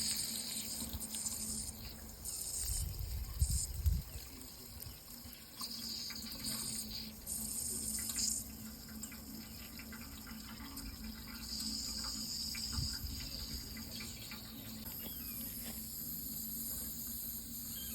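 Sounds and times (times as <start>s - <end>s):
running water: 0.0s - 17.9s.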